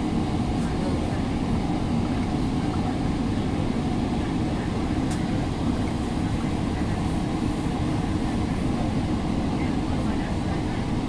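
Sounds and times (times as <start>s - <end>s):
train coach low rumble: 0.0s - 11.0s.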